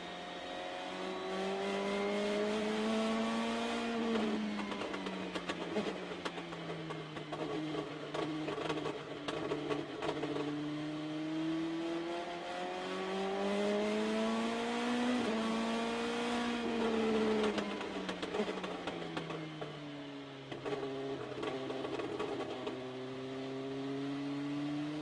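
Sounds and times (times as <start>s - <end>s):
race car engine: 0.0s - 25.0s.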